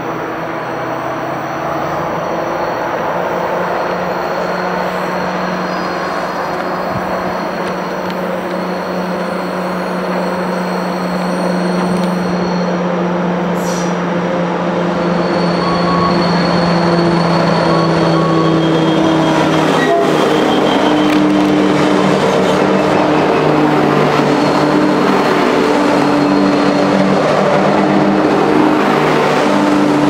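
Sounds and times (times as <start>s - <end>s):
diesel locomotives passing: 0.0s - 30.0s.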